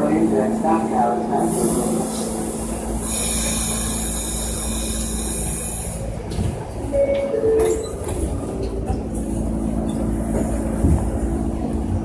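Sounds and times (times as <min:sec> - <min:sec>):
subway train whine and hiss: 0:00.0 - 0:12.0.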